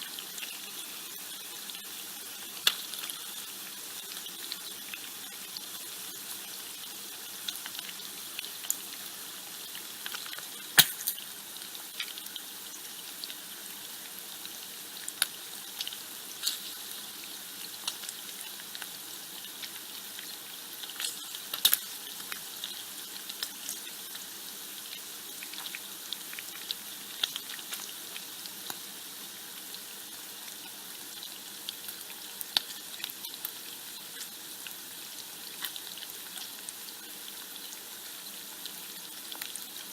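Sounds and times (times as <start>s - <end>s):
bacon sizzling and popping: 0.0s - 39.9s.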